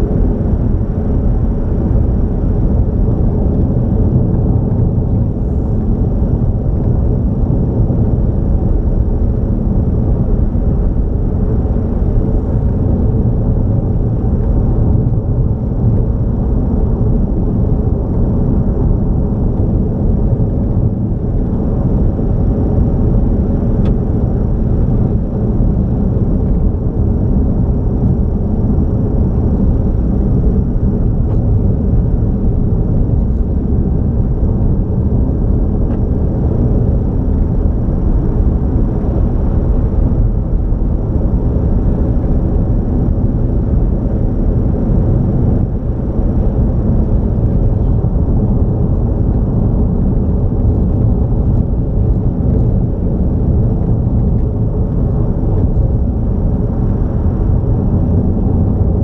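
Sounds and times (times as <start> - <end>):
car driving at highway speed: 0.0 - 59.0.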